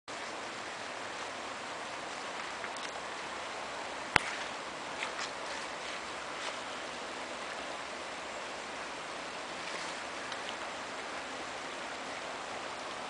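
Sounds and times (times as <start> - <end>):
creek rushing in flood: 0.1 - 13.0.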